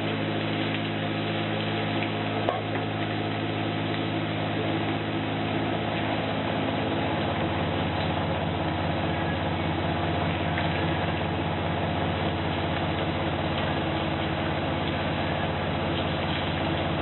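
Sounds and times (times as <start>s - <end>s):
low machine hum: 0.0s - 17.0s
slices frying in oil: 0.0s - 17.0s.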